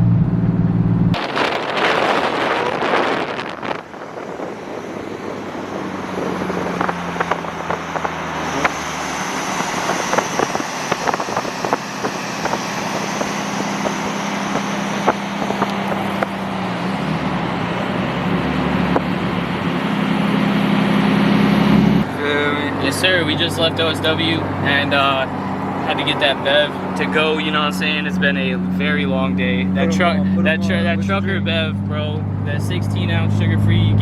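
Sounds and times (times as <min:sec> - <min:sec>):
car engine humming: 0:00.0 - 0:34.0
road noise: 0:00.0 - 0:34.0.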